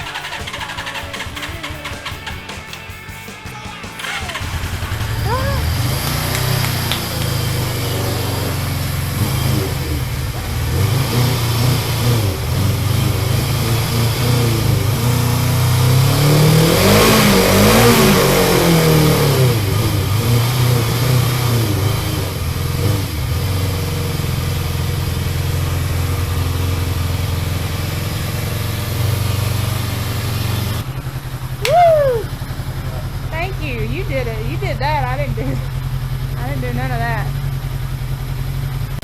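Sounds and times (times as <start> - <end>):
motorcycle engine idling and revving: 0.0 - 39.0.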